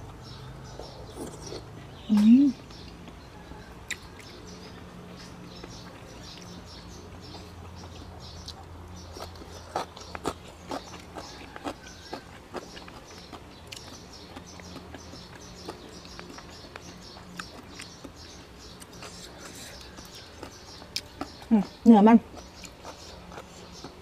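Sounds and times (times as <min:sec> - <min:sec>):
person chewing and smacking: 0:03.8 - 0:06.6, 0:07.2 - 0:24.0.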